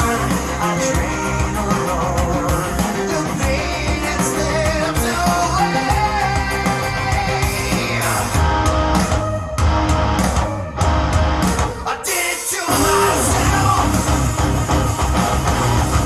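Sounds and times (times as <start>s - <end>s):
rock song through speakers: 0.0s - 16.0s.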